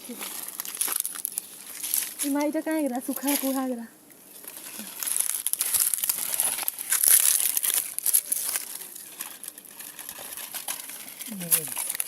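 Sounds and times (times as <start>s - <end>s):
crisp crinkling rustle: 0.0s - 12.0s.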